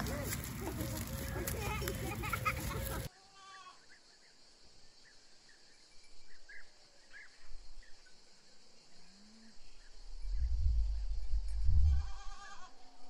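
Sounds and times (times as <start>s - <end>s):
high hiss of insects: 0.4s - 12.8s.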